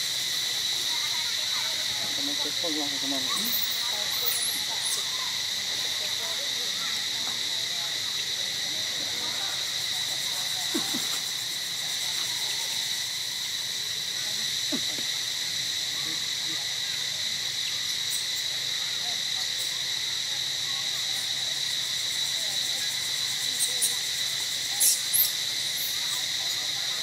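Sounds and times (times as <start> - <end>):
insect chorus drone: 0.0 - 27.0.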